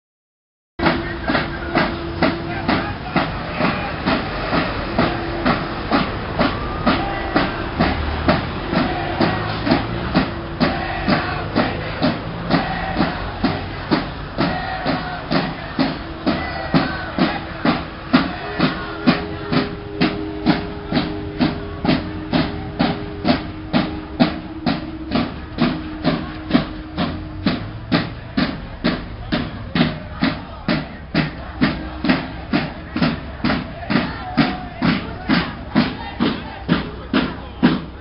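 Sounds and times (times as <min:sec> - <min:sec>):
drums beating steady rhythm: 0:00.8 - 0:38.0.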